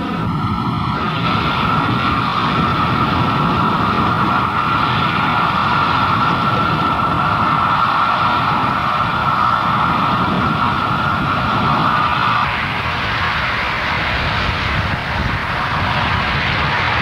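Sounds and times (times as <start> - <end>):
jet turbine whine and rush: 0.0 - 17.0.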